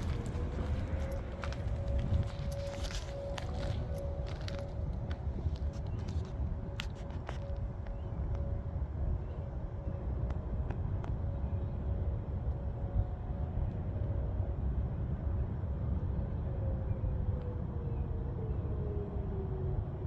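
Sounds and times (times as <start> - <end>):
distant warning sirens: 0.0 - 20.0
low background rumble: 0.0 - 20.0.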